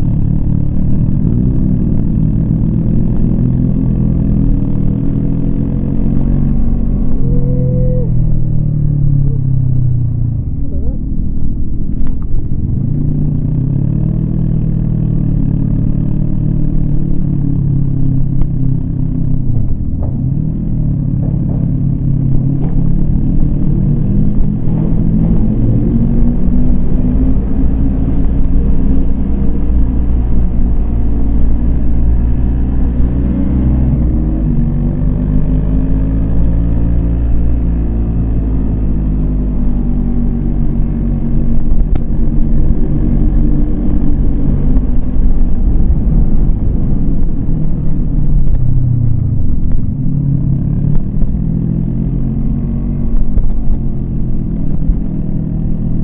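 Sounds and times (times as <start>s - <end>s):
low wind rumble: 0.0s - 56.0s
motorcycle engine revving: 0.0s - 56.0s.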